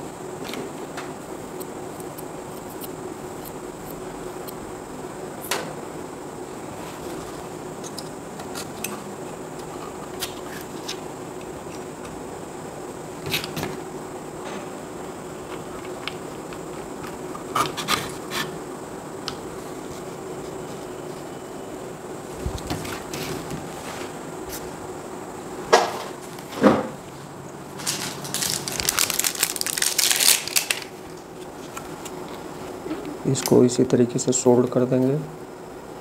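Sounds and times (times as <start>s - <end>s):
steady background hum: 0.0s - 36.0s.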